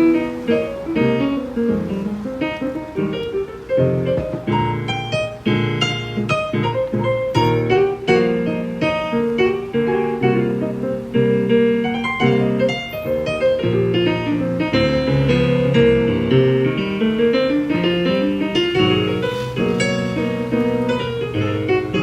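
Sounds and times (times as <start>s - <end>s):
keyboard notes and chords: 0.0s - 22.0s.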